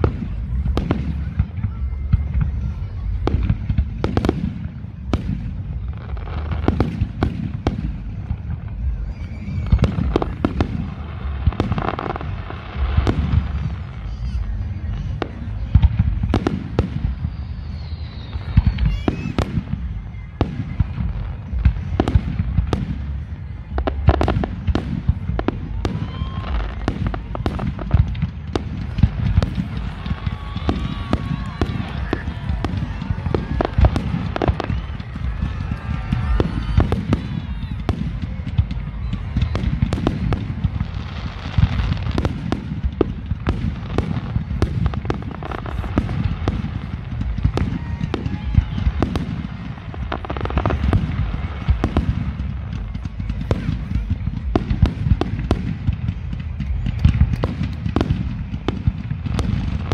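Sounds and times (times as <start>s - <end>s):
fireworks booming and cracking: 0.0s - 59.9s.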